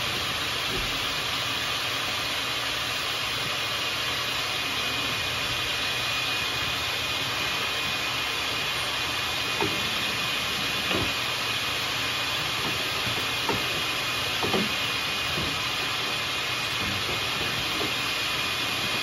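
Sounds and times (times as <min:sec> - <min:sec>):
compressed air hissing in duct: 0:00.0 - 0:19.0.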